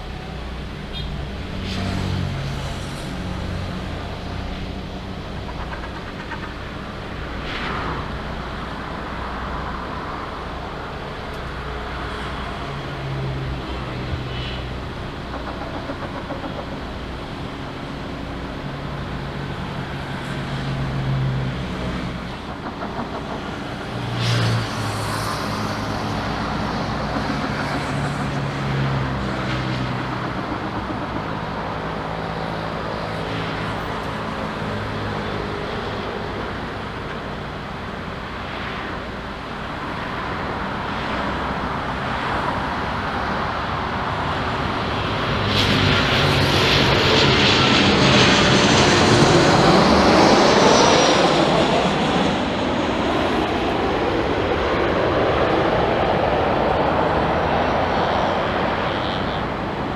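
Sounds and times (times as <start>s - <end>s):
airliner engines: 0.0s - 59.9s
engine and road traffic noise: 0.0s - 59.9s.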